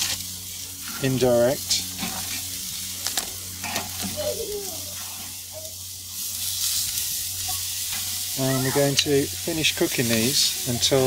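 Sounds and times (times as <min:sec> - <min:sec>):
steaks sizzling on a grill: 0:00.0 - 0:11.0.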